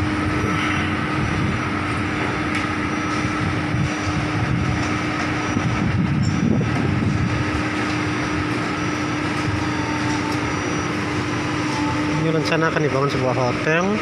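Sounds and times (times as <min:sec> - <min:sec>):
construction machinery engines droning: 0:00.0 - 0:14.0.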